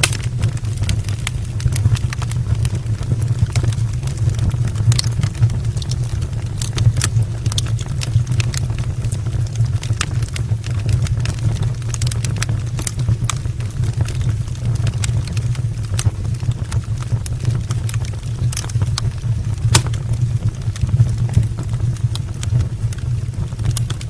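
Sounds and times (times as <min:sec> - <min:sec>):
burning logs popping: 0:00.0 - 0:24.0
fire crackling and rumbling: 0:00.0 - 0:24.0.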